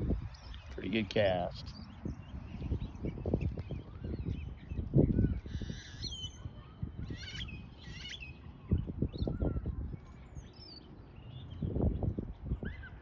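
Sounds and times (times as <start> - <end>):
small birds chirping: 0.0 - 13.0
wind rumbling on microphone: 0.0 - 13.0.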